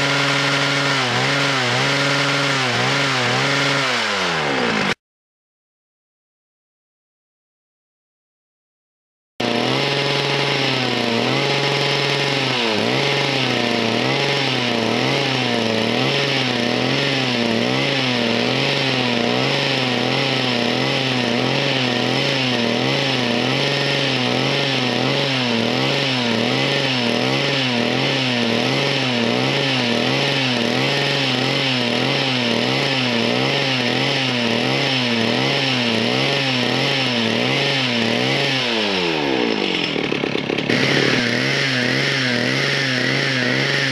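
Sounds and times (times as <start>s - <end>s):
chainsaw engine driving a winch: 0.0s - 5.0s, 9.4s - 43.9s.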